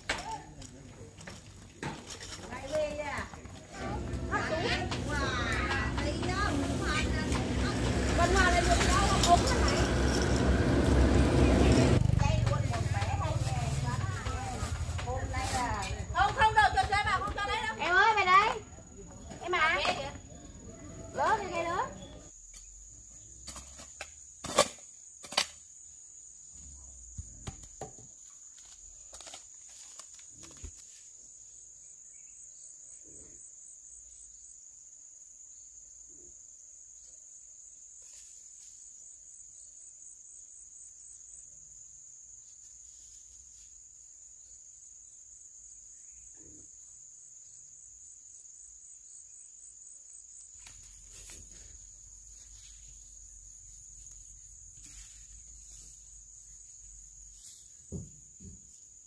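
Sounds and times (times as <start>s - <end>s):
insect chorus drone: 2.2s - 59.0s.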